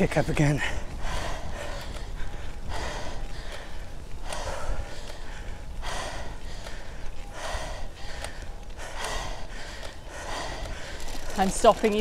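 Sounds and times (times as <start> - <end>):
wind rumble on microphone: 0.0 - 12.0
cyclist breathing hard: 0.4 - 12.0.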